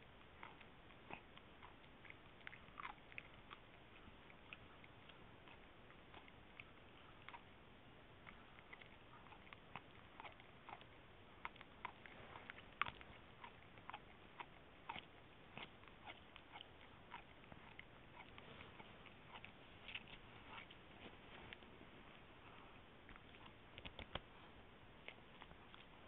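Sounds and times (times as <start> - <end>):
dog chewing and gnawing: 0.0 - 21.7, 25.0 - 26.0.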